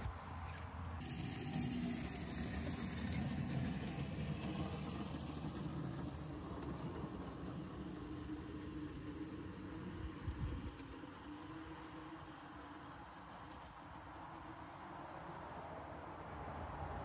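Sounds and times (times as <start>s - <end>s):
miniature locomotive engine running: 1.0s - 16.2s.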